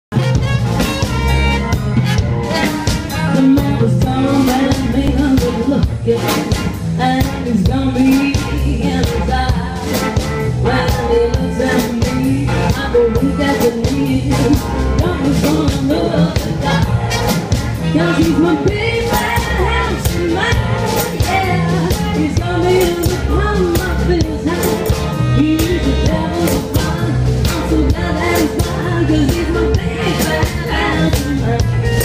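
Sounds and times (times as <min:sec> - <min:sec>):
drum kit: 0:00.1 - 0:32.0
upright bass: 0:00.1 - 0:32.0
woman singing lead vocal: 0:03.1 - 0:32.0.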